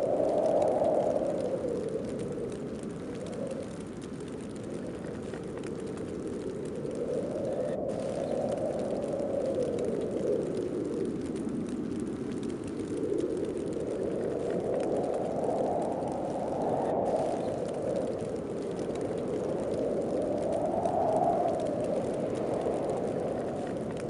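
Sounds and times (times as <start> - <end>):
gusting wind: 0.0 - 24.0.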